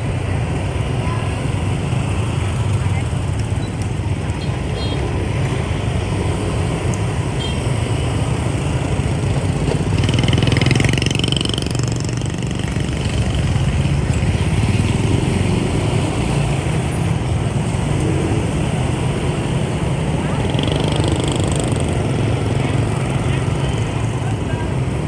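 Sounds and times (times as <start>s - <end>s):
motorbike engines in traffic: 0.0s - 25.0s.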